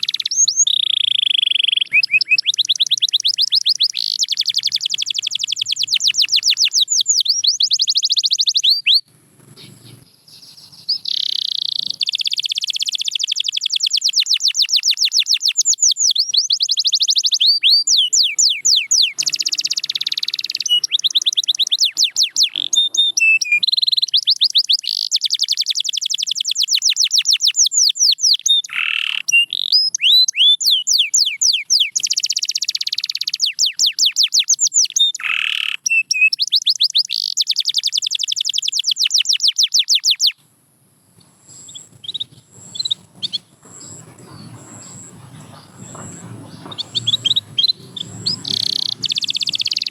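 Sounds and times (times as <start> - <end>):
canary singing fast trills: 0.0 - 40.4, 41.2 - 49.9.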